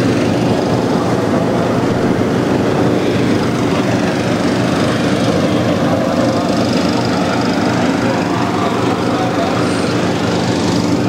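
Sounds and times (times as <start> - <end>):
engine inflator fans running: 0.0 - 11.0.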